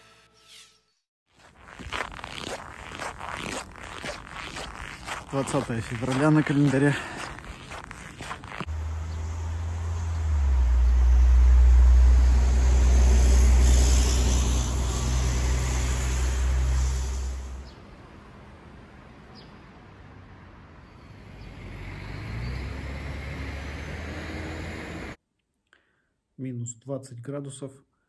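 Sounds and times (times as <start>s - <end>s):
road traffic rumble: 1.6s - 25.2s.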